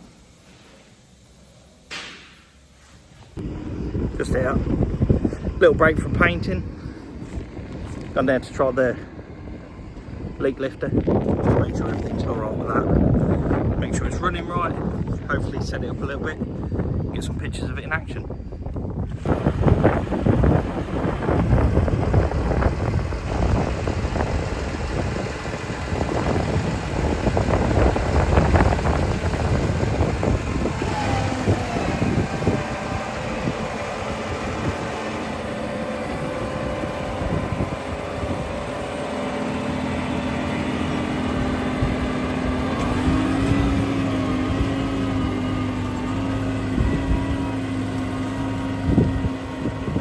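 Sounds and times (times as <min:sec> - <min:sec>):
tractor engine running: 0:03.4 - 0:50.0.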